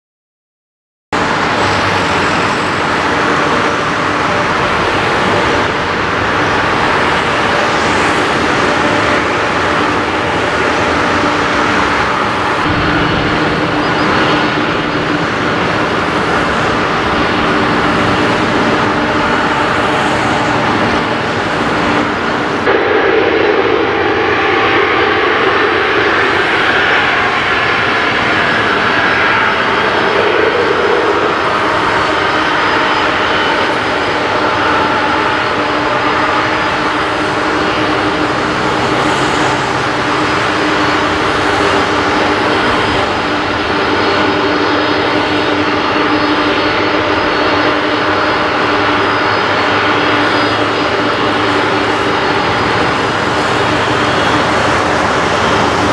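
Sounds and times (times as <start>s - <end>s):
jet engines roaring and whining: 1.2s - 55.9s.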